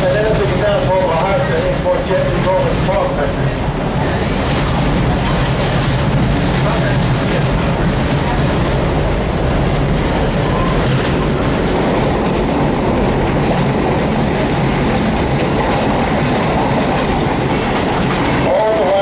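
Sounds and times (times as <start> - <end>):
train car rolling along track: 0.0 - 19.0.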